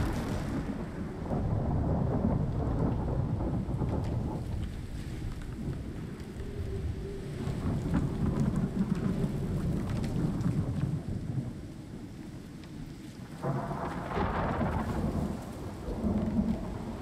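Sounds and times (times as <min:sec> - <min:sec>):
rolling thunder: 0:00.0 - 0:12.1, 0:13.3 - 0:17.0
steady rain: 0:00.0 - 0:17.0.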